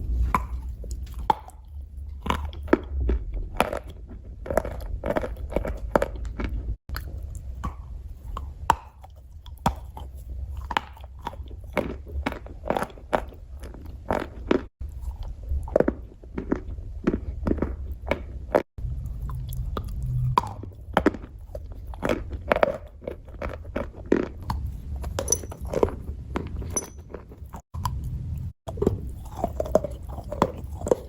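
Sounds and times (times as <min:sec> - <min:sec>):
steady low rumble: 0:00.0 - 0:10.6, 0:11.2 - 0:30.9
chalk being crunched and chewed: 0:00.1 - 0:28.1, 0:28.7 - 0:31.0.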